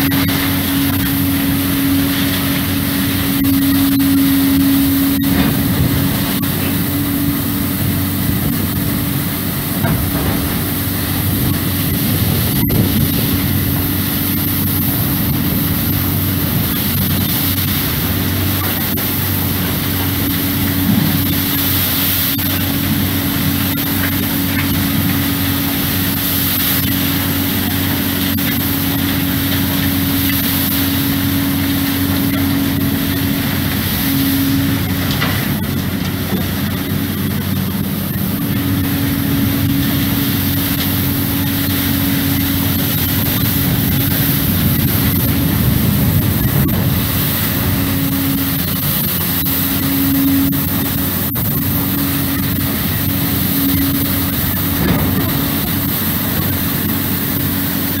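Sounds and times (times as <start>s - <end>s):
heavy machinery engine running: 0.0s - 58.0s
steady low hum: 0.0s - 58.0s.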